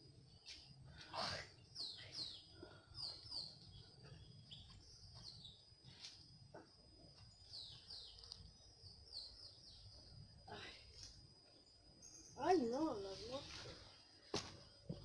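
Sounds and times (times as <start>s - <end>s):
faint birdsong chirps: 0.0s - 15.0s
thin steady high tone: 1.2s - 14.2s.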